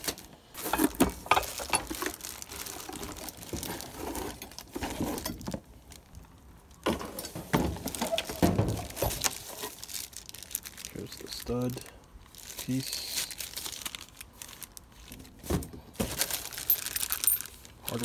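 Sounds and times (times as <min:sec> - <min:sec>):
plastic wrapping crinkling: 0:00.0 - 0:06.8, 0:07.6 - 0:18.0.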